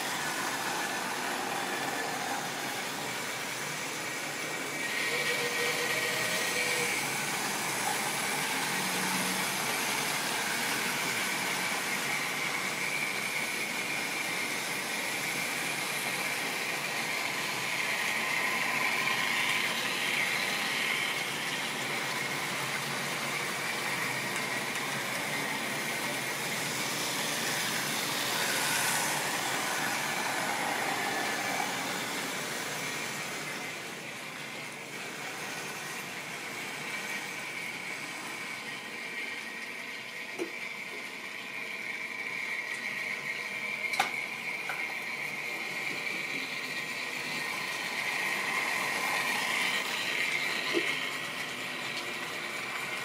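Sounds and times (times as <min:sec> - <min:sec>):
model train motor whine: 0:00.0 - 0:53.0.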